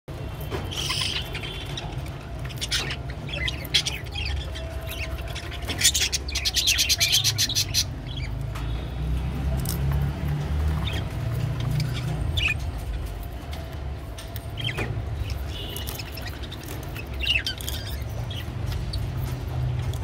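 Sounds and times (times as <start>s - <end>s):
beaks clicking and crunching leaves: 0.3s - 20.0s
budgerigars chirping: 0.5s - 8.9s, 10.6s - 13.6s, 14.4s - 20.0s.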